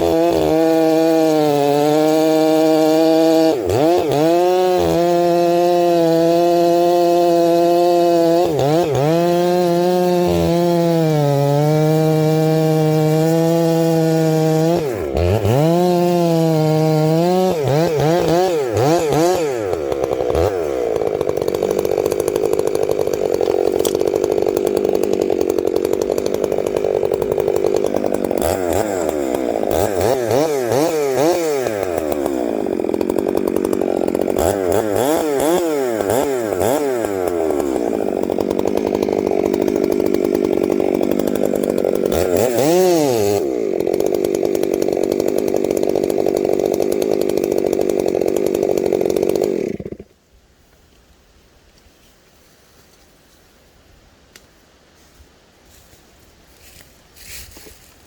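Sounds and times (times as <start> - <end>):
chainsaw running at high revs: 0.0 - 50.1.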